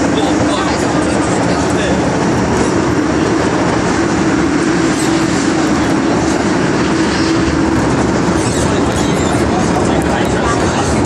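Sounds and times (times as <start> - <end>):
low hum: 0.0 - 11.0
metro train wheels rumbling: 0.0 - 11.0.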